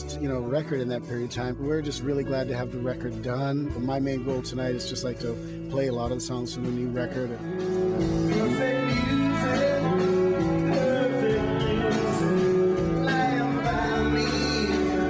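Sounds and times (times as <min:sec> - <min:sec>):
rock band music with guitar: 0:00.0 - 0:15.0.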